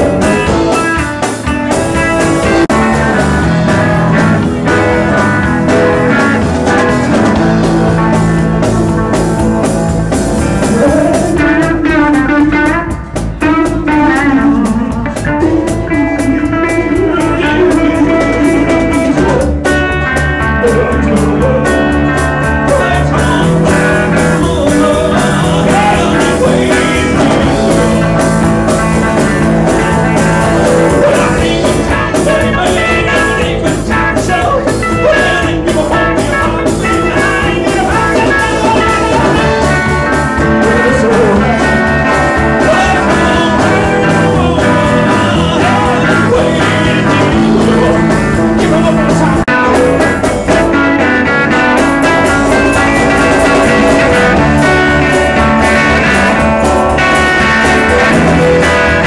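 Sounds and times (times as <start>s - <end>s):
drum kit: 0.0s - 59.0s
electric bass guitar: 0.0s - 59.0s
guitars: 0.0s - 59.0s.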